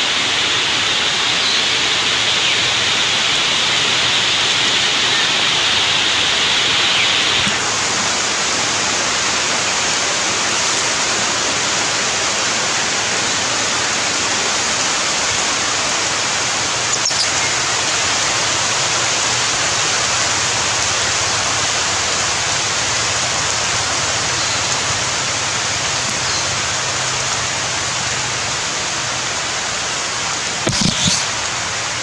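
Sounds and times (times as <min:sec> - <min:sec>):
loud steady hiss: 0:00.0 - 0:32.0.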